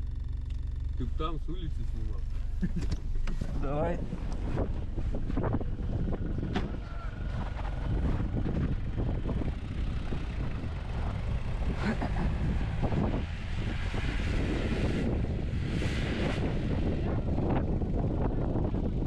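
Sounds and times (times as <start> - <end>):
vehicle engine rumble: 0.0 - 19.0
wind buffeting microphone: 3.0 - 19.0.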